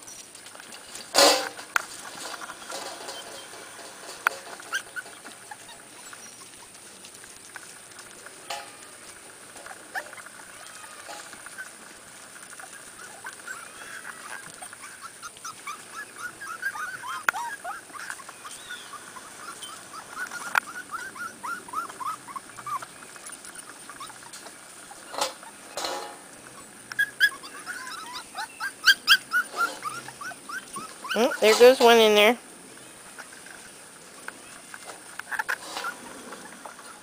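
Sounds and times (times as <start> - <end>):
puppies whimpering: 2.1 - 7.2, 8.0 - 32.4, 35.0 - 37.0.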